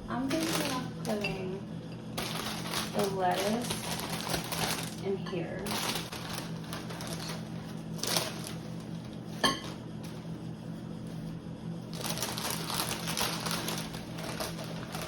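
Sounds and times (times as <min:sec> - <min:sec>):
plastic crinkling: 0:00.1 - 0:01.5, 0:02.1 - 0:10.3, 0:11.8 - 0:15.0
plastic packaging rustling: 0:00.1 - 0:01.5, 0:02.1 - 0:10.3, 0:11.1 - 0:15.0.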